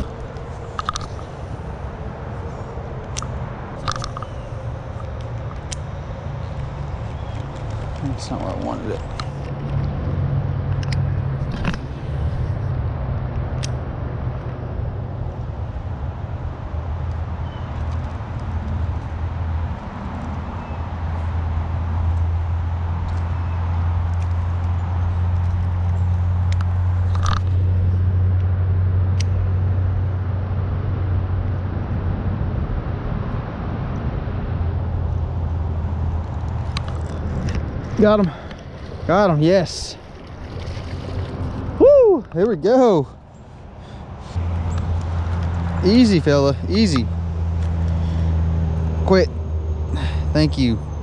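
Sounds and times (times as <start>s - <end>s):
distant road traffic drone: 0.0s - 51.0s
steady low rumble: 0.0s - 51.0s.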